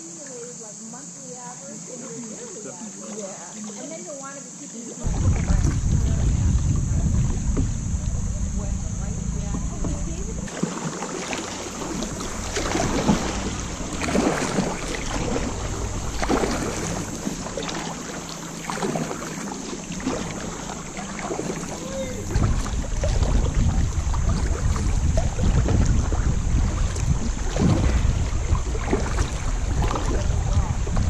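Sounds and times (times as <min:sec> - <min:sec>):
wind rumble on microphone: 0:05.0 - 0:10.5, 0:11.4 - 0:31.0
paddle strokes splashing in water: 0:05.0 - 0:31.0.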